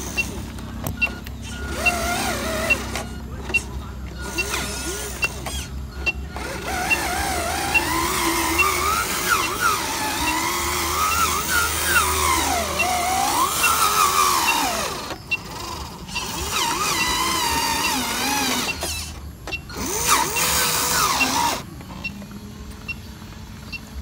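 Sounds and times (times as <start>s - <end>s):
toy truck motor whining: 0.0s - 23.0s.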